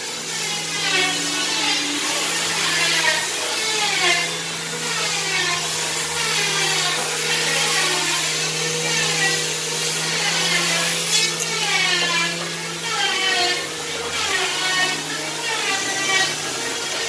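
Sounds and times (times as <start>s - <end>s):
electric sander whining on wood: 0.0s - 17.0s.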